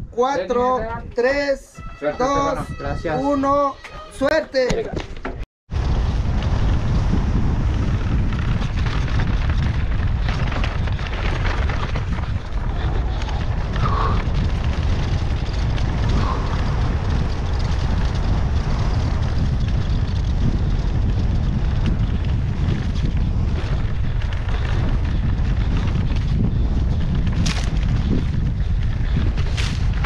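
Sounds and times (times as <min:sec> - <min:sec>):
wind rumble on microphone: 0:00.0 - 0:03.8, 0:05.2 - 0:30.0
bike clicks and rattles: 0:05.0 - 0:30.0
bike tyres on dirt: 0:05.7 - 0:30.0.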